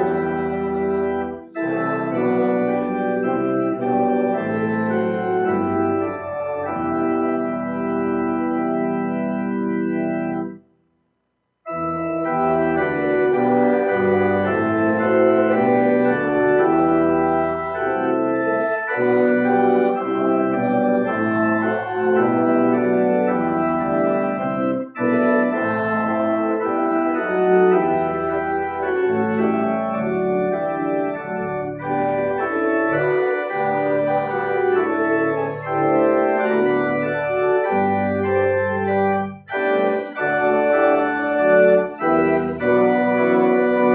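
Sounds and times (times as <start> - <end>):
organ chords: 0.0 - 10.8, 11.6 - 43.9.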